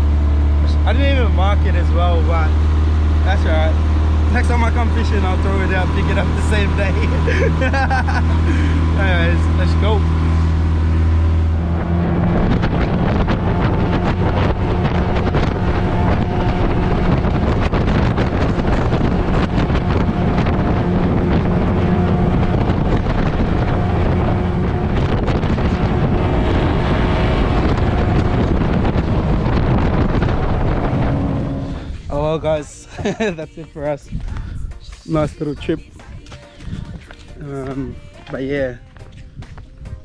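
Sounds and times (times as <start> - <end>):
outboard motor running: 0.0 - 33.4
wind buffeting microphone: 0.6 - 40.0.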